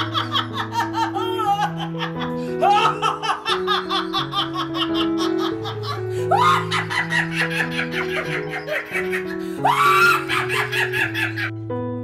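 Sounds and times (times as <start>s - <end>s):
woman laughing: 0.0s - 11.5s
background music with held notes: 0.0s - 12.0s.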